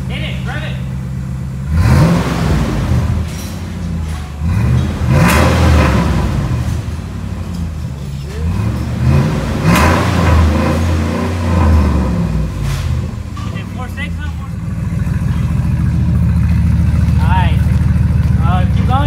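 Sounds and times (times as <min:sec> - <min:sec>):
pickup engine revving: 0:00.0 - 0:19.0.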